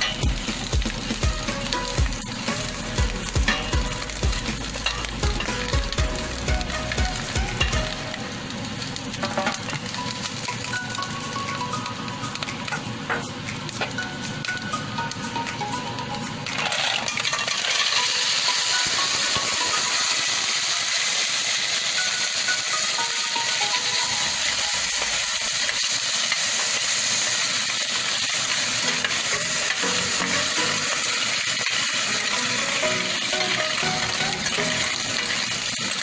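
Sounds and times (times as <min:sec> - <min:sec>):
clams and garlic sizzling: 0:00.0 - 0:36.0.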